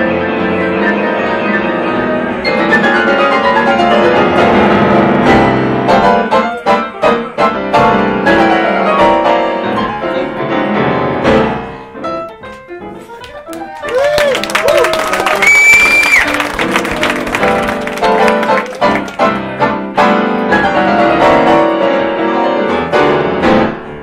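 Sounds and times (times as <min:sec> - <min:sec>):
jazz piano duet: 0:00.0 - 0:24.0.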